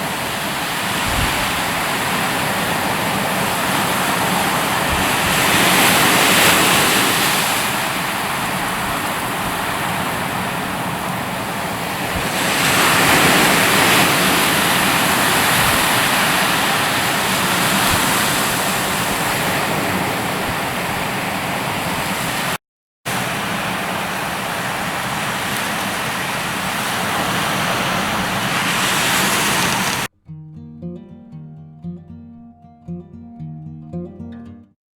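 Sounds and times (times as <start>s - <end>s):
ocean surf washing ashore: 0.0s - 30.1s
wind buffeting the microphone: 0.0s - 30.1s.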